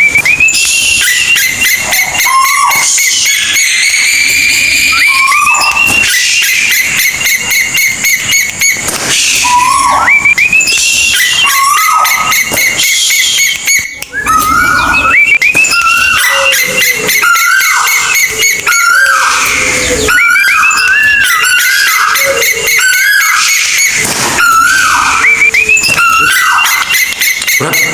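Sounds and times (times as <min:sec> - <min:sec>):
bird calling with rising notes: 0:00.0 - 0:27.8.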